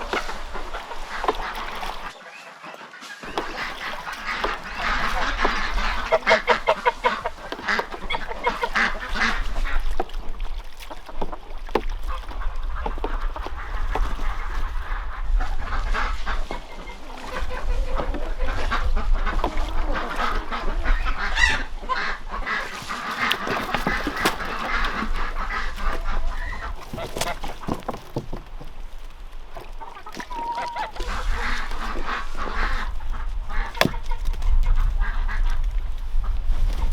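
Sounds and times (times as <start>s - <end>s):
geese honking: 0.0s - 10.1s, 12.8s - 28.2s, 29.6s - 35.5s
ducks quacking: 0.0s - 28.9s, 29.5s - 36.9s.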